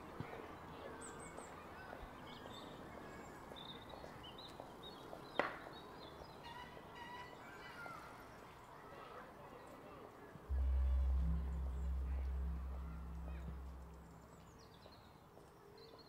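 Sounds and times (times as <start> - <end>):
faint outdoor background noise: 0.0 - 15.6.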